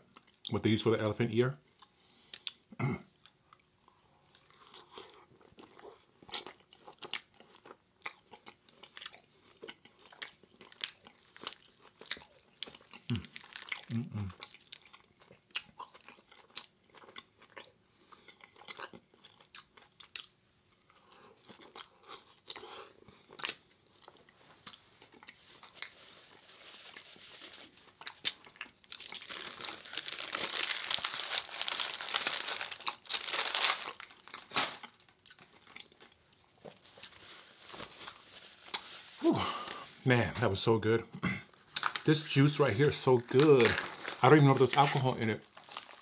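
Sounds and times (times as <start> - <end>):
chewing and crunching crispy food: 1.6 - 39.8, 41.6 - 46.0.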